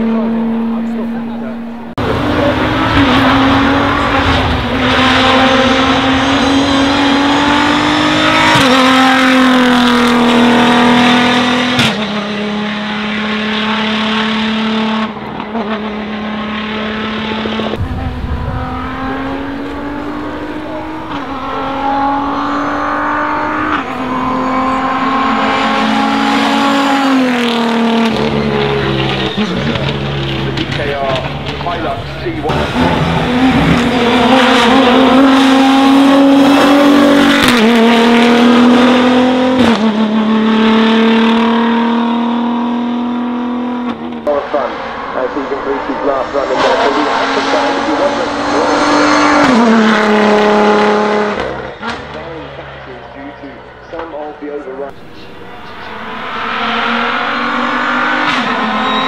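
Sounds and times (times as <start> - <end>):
truck engine revving through gears: 0.0 - 54.1, 54.9 - 59.0.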